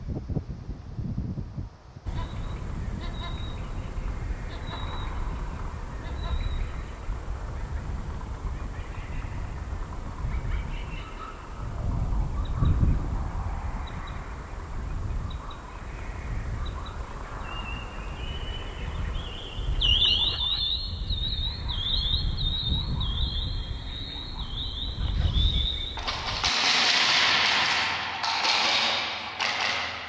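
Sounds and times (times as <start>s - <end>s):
wind gusting on microphone: 0.0s - 30.0s.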